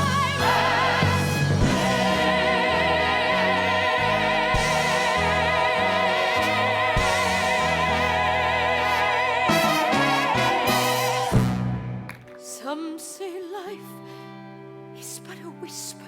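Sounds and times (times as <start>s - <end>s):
pit orchestra playing: 0.0s - 13.8s.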